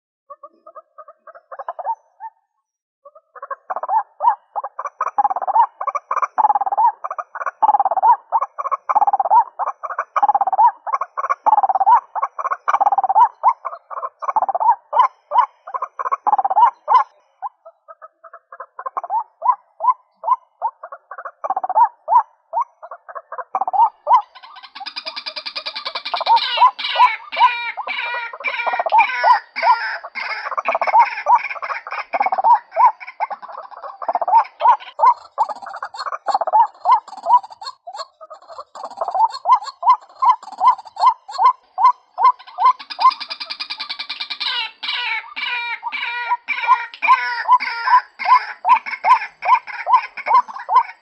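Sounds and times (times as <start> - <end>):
waterhen croaking call: 3.0 - 51.0.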